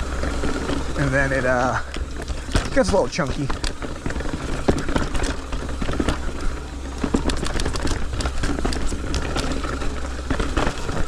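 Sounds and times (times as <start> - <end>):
bike clattering and knocking: 0.0 - 11.0
tyres rumbling over rock: 0.0 - 11.0.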